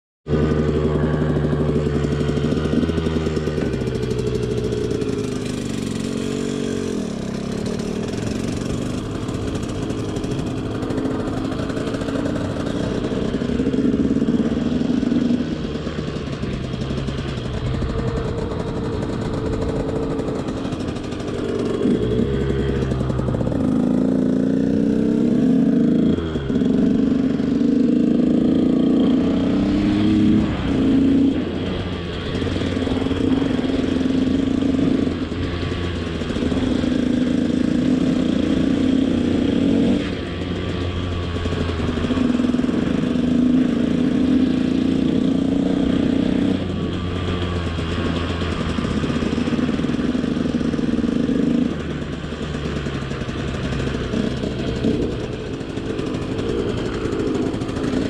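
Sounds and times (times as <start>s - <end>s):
motorcycle engine revving: 0.3s - 58.0s.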